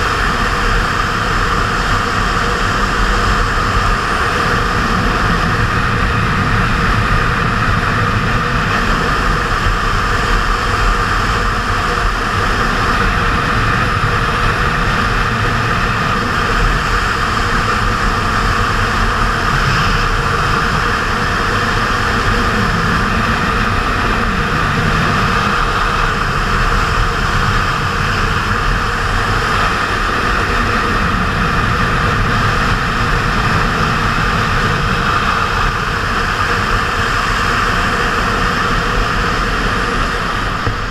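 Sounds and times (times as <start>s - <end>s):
motorcycle engine running: 0.0s - 40.9s
wind rushing on camera: 0.0s - 40.9s.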